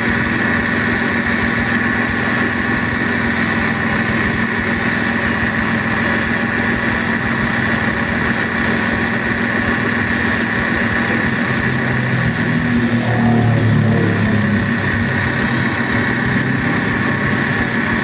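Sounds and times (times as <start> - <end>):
car engine idling: 0.0 - 18.0
steady high-pitched tone: 0.0 - 18.0.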